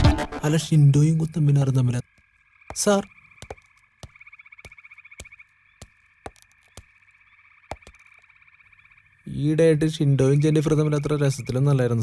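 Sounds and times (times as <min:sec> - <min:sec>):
high chirring of frogs and insects: 0:00.5 - 0:12.0.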